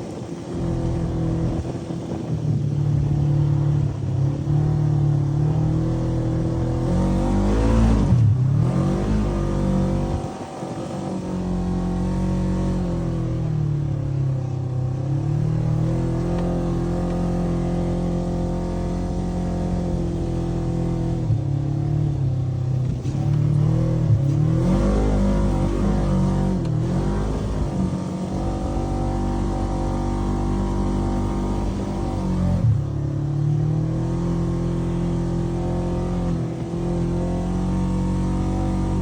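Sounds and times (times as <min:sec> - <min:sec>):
engine revving under throttle: 0:00.0 - 0:39.0.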